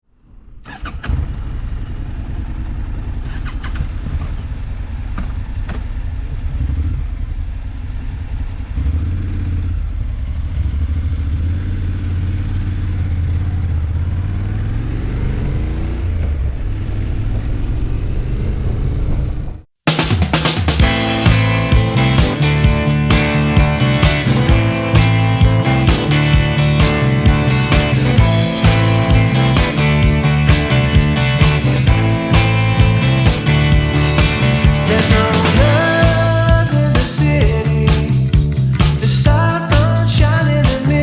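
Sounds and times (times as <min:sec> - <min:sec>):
motorcycle engine accelerating: 0:00.6 - 0:41.0.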